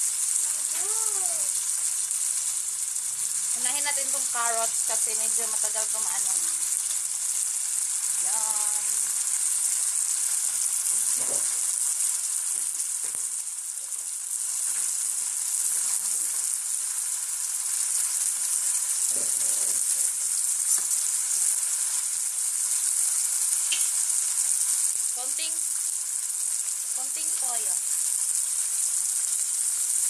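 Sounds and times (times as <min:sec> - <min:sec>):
food sizzling in a wok: 0:00.0 - 0:30.0.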